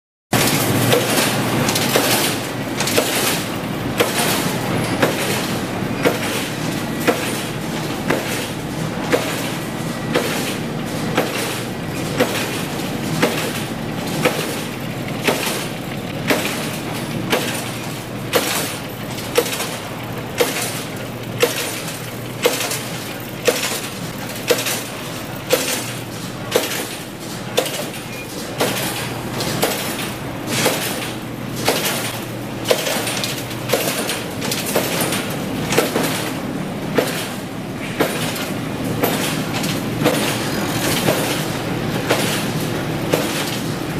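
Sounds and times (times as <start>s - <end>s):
machine mechanical rattle: 0.4s - 43.9s.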